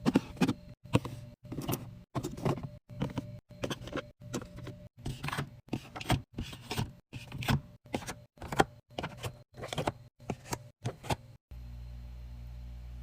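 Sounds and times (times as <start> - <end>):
groceries rustling and knocking: 0.0 - 11.2
fridge humming: 0.0 - 13.0.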